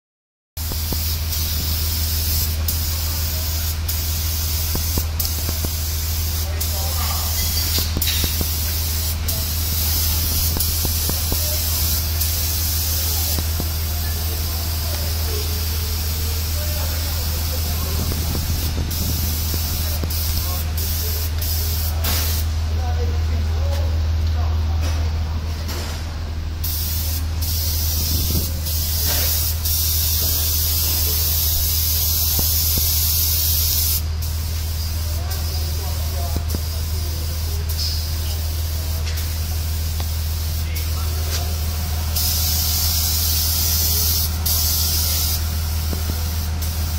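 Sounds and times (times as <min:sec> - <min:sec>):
paint spray gun hissing: 0:00.6 - 0:22.6, 0:26.6 - 0:46.9
steady low hum: 0:00.6 - 0:46.9.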